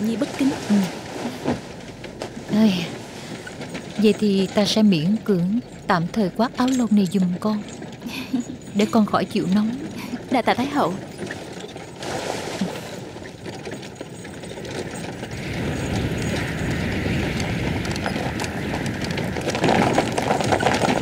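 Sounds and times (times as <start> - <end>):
horse hooves clip-clopping: 0.0 - 21.0.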